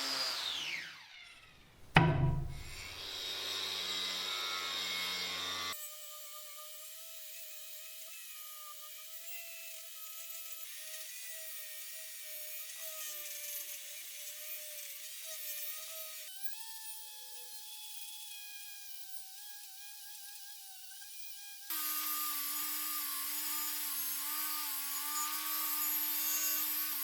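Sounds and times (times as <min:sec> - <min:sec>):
power tool whining and grinding: 0:00.0 - 0:01.5, 0:02.6 - 0:27.0.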